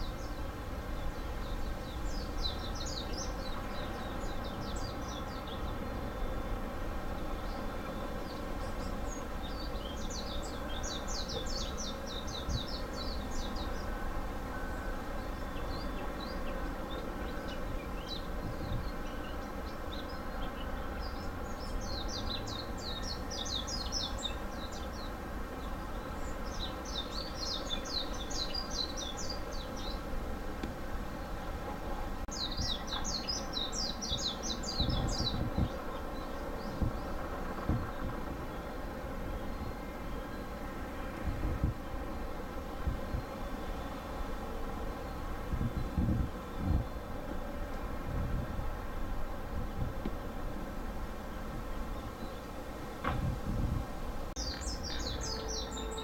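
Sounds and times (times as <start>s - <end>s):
small birds chirping trills: 0.0s - 56.0s.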